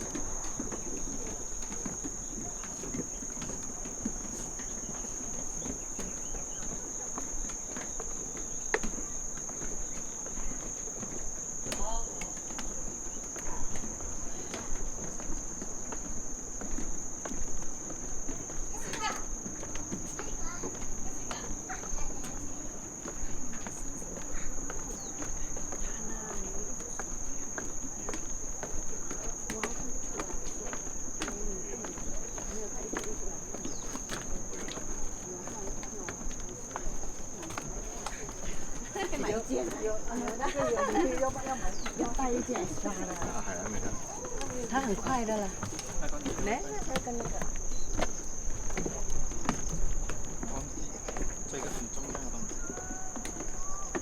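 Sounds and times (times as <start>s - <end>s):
crickets chirring: 0.0s - 54.0s
faint footsteps and scuffs: 0.0s - 54.0s
faint voices: 0.0s - 54.0s
insects trilling: 0.0s - 54.0s.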